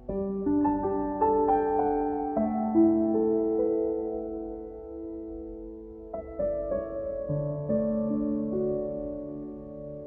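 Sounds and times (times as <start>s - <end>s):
slow new-age instrumental music: 0.0s - 10.0s.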